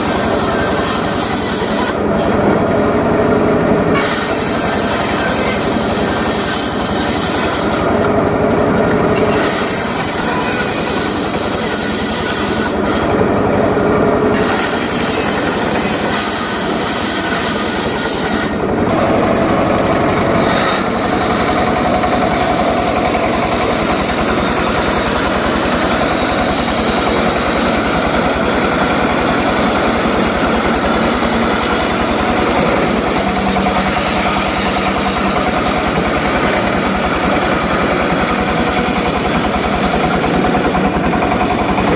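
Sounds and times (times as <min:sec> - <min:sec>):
engine with mechanical rattle: 0:00.0 - 0:41.9.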